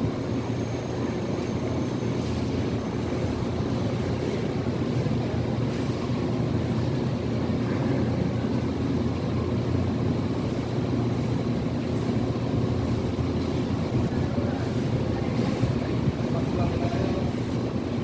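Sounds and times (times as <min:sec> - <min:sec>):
low mechanical drone: 0:00.0 - 0:18.0.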